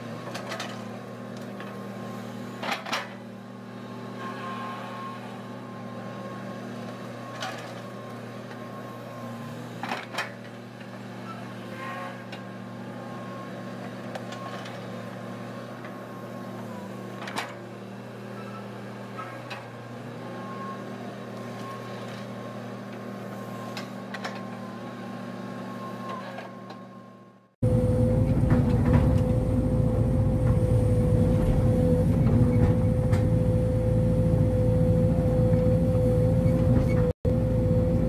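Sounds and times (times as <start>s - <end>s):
excavator diesel engine: 0.0s - 38.0s.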